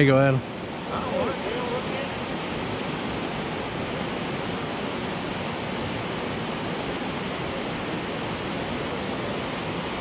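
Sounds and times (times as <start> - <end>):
river rushing over rapids: 0.0 - 10.0.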